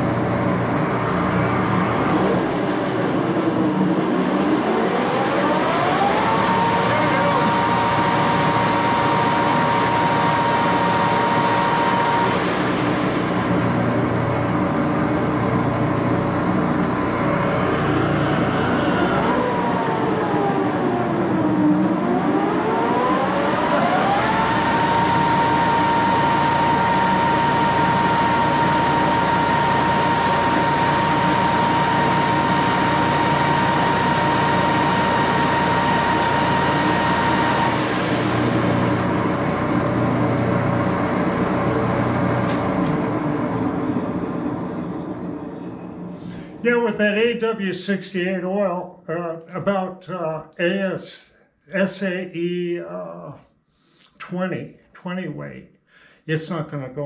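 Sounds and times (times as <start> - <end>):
lathe running: 0.0 - 46.8
lathe gear whine: 0.0 - 47.2.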